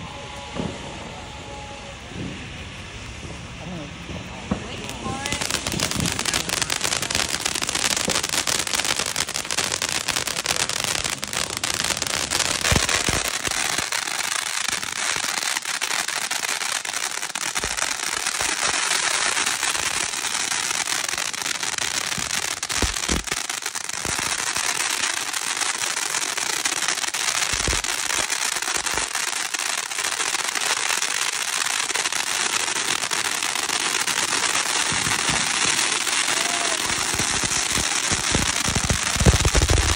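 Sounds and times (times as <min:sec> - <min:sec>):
fireworks fountain hiss and crackle: 0:00.0 - 0:39.9.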